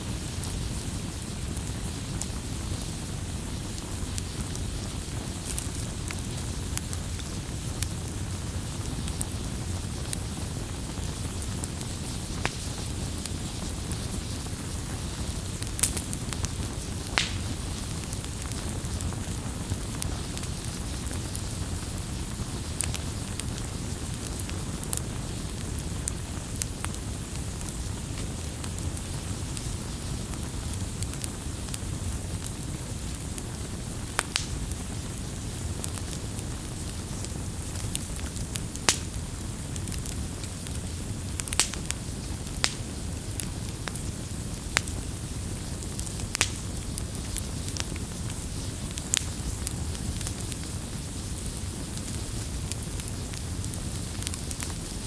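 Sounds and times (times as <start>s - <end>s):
burning wood crackling and popping: 0.0s - 55.0s
low rumble of flames: 0.0s - 55.0s.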